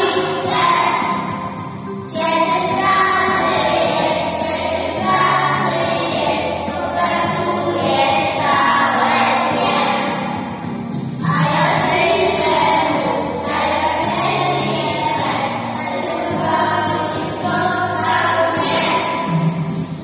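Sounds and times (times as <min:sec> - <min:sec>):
children singing in unison: 0:00.0 - 0:19.8.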